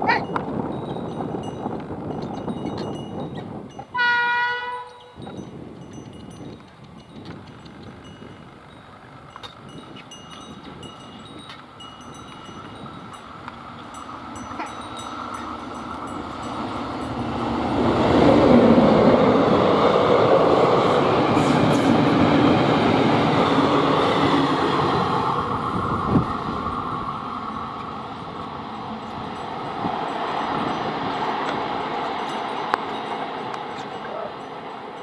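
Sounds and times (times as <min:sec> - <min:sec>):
train rushing past: 0:00.0 - 0:35.0
wheels rumbling on rails: 0:00.0 - 0:35.0.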